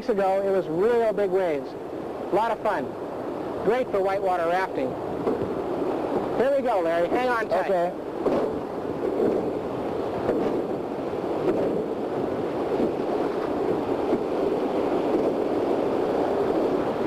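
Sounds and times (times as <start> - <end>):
whitewater rushing and splashing: 0.0 - 17.0.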